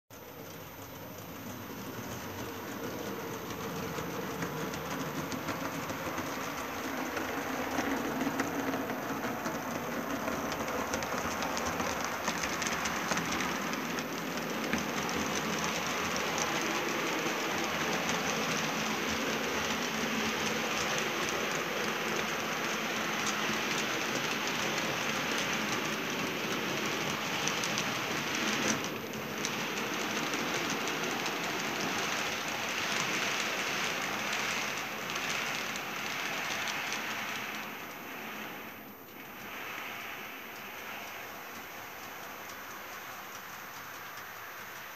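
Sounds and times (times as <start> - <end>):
model train rattling on track: 0.1 - 44.9.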